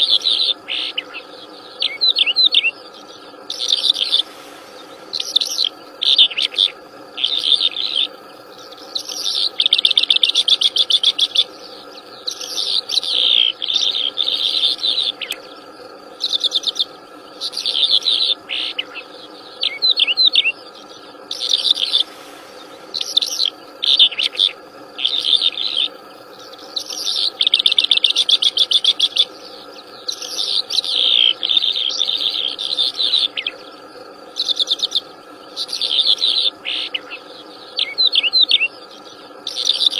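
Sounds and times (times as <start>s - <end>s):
faint steady drone: 0.0s - 39.9s
songbird singing: 0.0s - 39.9s.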